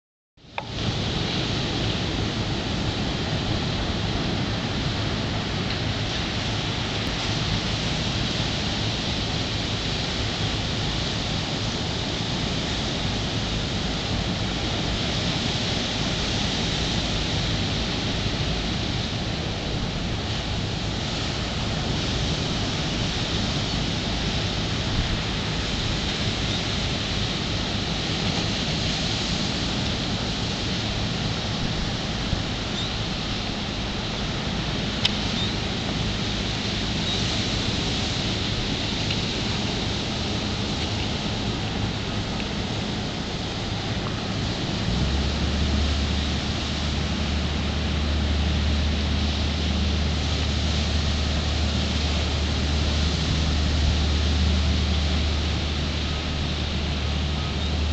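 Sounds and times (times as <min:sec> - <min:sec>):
ocean surf breaking: 0:00.6 - 0:57.9.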